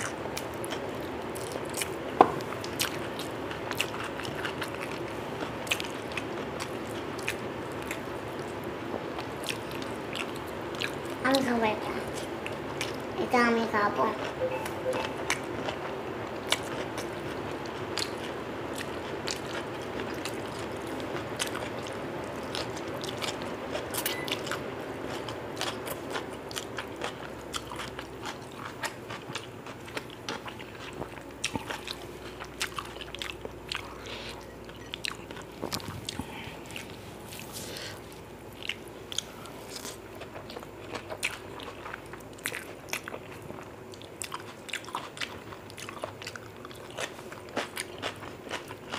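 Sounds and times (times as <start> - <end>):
person chewing food: 0.0 - 11.2, 12.1 - 13.1, 14.2 - 48.9.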